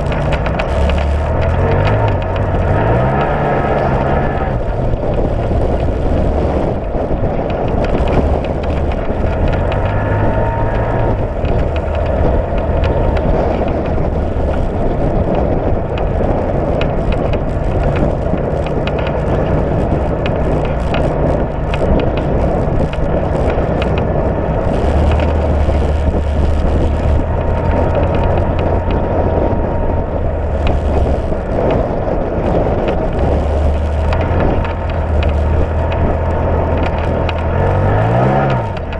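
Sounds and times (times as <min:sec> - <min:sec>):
tyres crackling on gravel: 0:00.0 - 0:38.9
utility vehicle engine running: 0:00.0 - 0:38.9.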